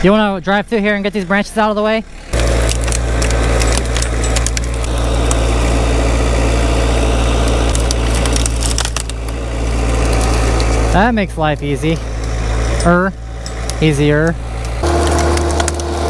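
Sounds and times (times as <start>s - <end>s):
skid steer engine humming: 0.0s - 16.0s
branches crackling and snapping: 2.2s - 16.0s.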